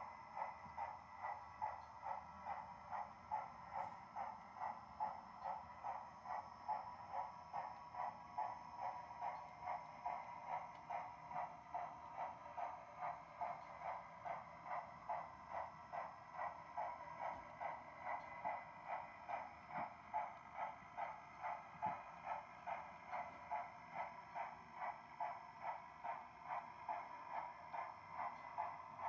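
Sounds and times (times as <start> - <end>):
model steam locomotive chuffing: 0.0 - 29.0.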